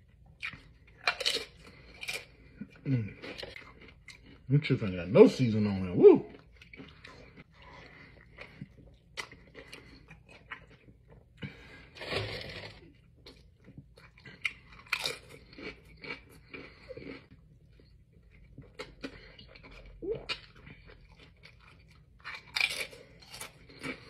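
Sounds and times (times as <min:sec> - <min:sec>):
chewing and crunching food: 0:00.0 - 0:24.0.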